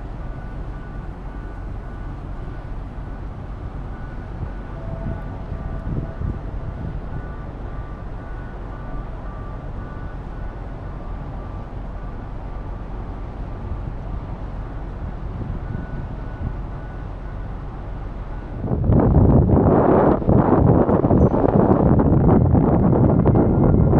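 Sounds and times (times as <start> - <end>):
ship engine rumble: 0.0 - 23.9
wind buffeting microphone: 0.0 - 23.9.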